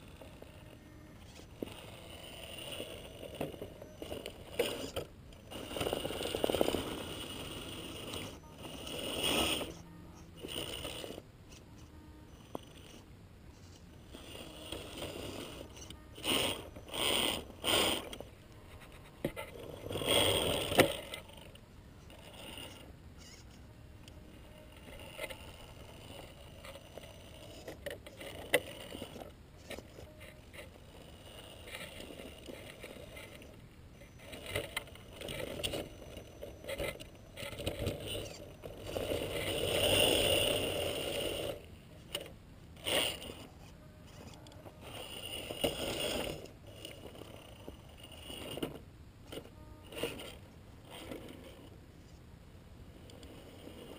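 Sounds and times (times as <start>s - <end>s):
rc car motor whirring: 0.0s - 52.2s, 52.9s - 53.9s.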